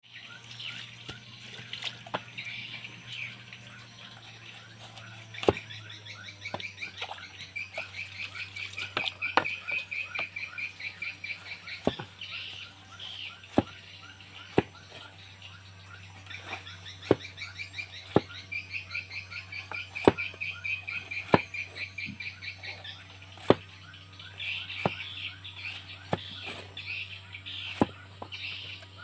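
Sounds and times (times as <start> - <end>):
steady low hum: 0.0 - 29.0
small animals chirping: 0.3 - 29.0.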